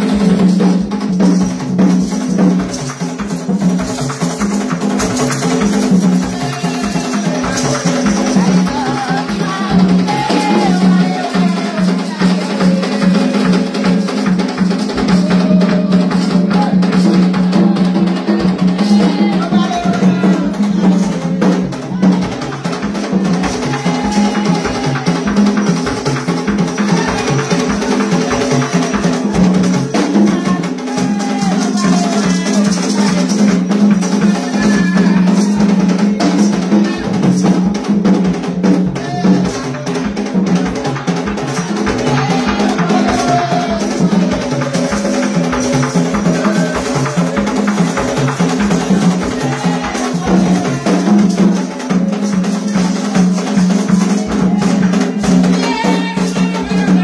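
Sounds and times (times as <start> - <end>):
hand drums playing rhythm: 0.0 - 57.0.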